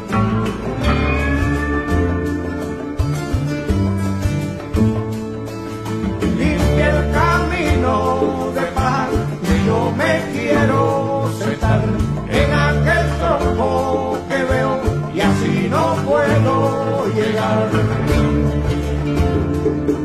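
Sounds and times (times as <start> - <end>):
acoustic guitar and bass: 0.0 - 20.0
sliding lead melody: 0.0 - 20.0.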